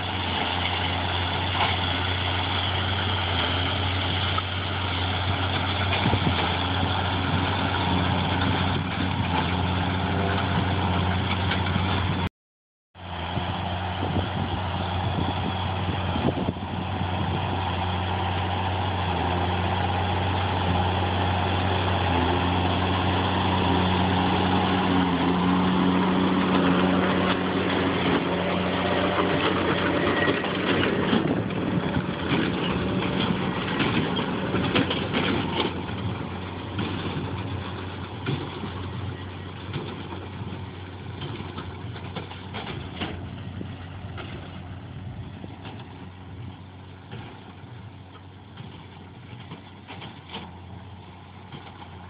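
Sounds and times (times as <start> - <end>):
tractor engine under load: 0.0 - 12.3, 13.0 - 52.0.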